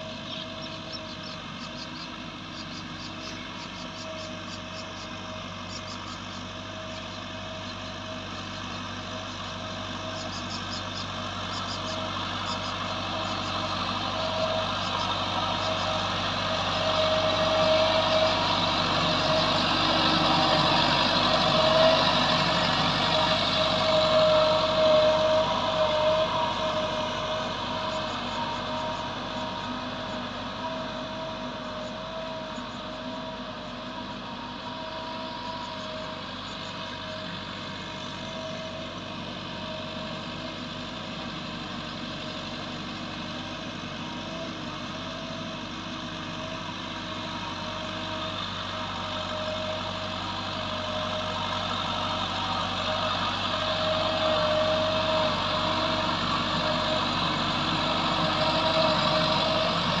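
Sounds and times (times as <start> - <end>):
tractor diesel engine under load: 0.0 - 60.0.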